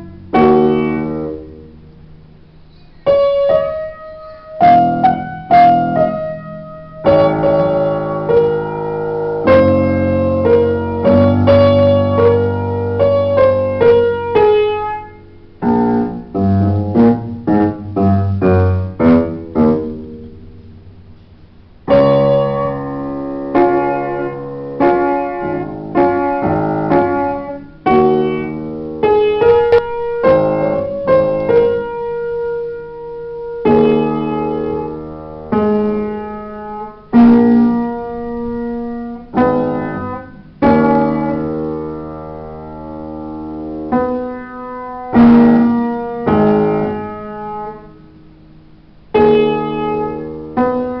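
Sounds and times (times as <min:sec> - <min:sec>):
upright piano playing: 0:00.0 - 0:51.0.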